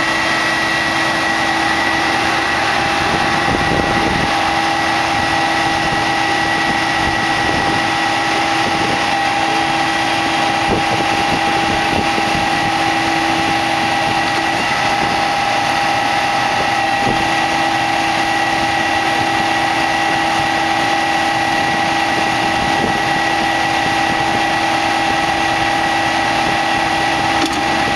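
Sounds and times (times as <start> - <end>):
constant machine whine: 0.0 - 27.9
harvester machine drone: 0.0 - 27.9.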